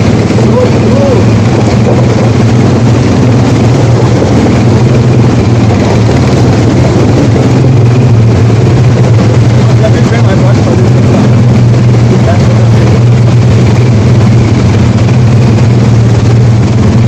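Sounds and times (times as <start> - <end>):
atv engine droning: 0.0 - 17.0.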